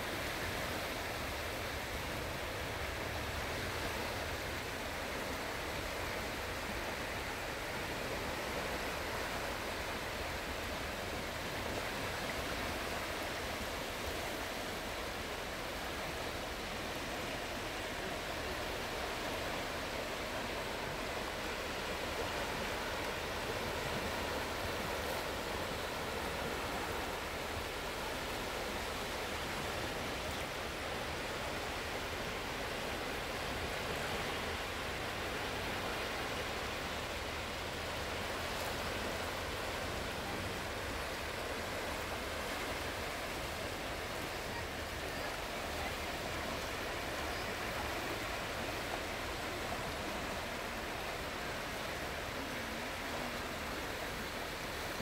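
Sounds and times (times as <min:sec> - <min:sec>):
small waves breaking: 0:00.0 - 0:55.0.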